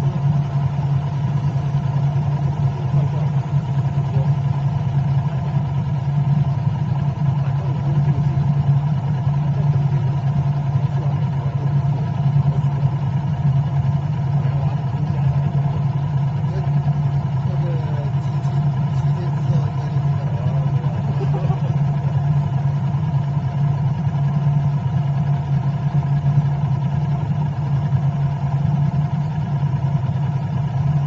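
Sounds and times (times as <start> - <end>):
vehicle engine and road drone: 0.0 - 31.0.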